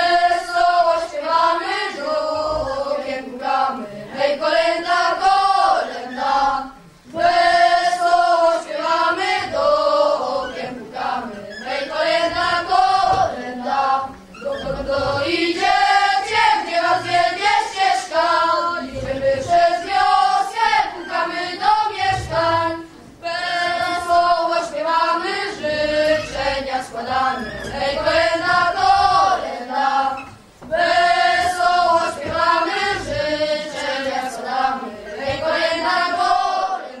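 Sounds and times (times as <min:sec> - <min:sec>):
boys singing a carol together: 0:00.0 - 0:37.0.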